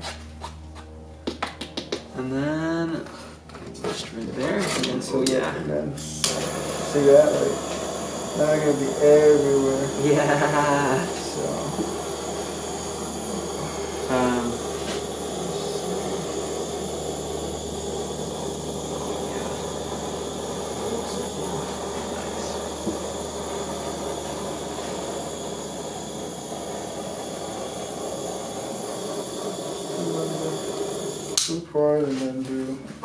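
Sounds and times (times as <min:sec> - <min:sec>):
paint torch flame running: 0:00.0 - 0:32.0.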